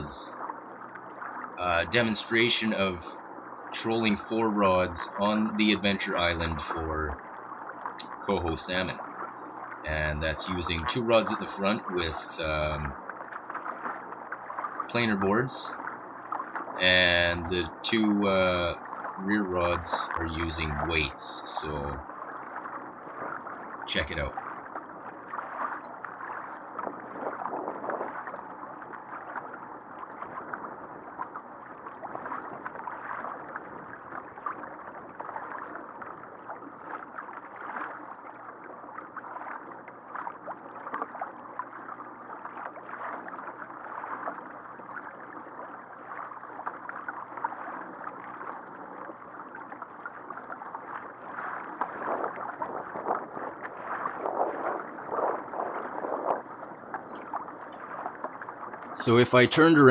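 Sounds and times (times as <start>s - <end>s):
water splashing against kayak hull: 0.0s - 59.9s.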